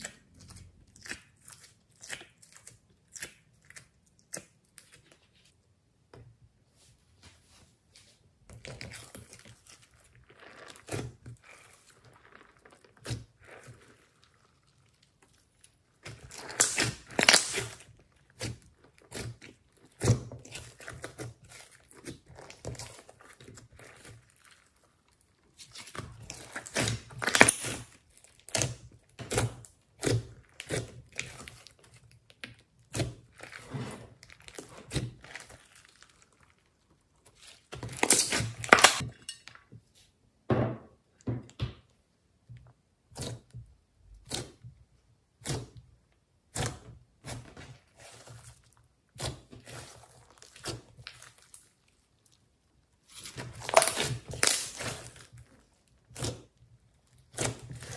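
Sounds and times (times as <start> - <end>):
slime squelching and crackling: 0.0 - 5.6, 7.9 - 39.0, 43.0 - 57.9.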